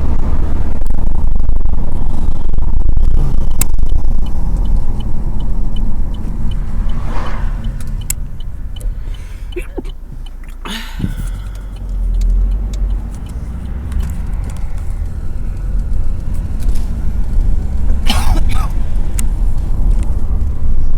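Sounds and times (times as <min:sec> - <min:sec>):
road noise: 0:00.0 - 0:20.9
wind buffeting inside car: 0:00.0 - 0:20.9.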